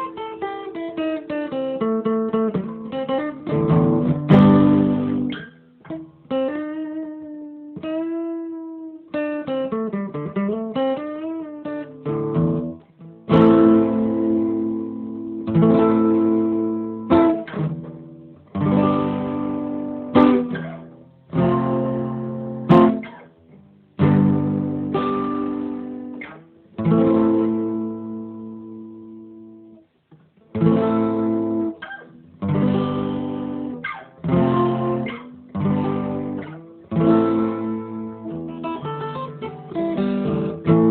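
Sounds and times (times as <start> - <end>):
solo guitar playing: 0.0 - 40.9.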